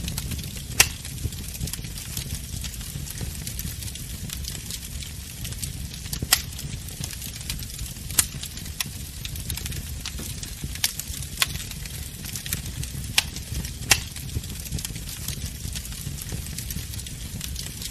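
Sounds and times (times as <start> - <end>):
fire popping and snapping: 0.0 - 17.9
wood fire crackling: 0.0 - 17.9.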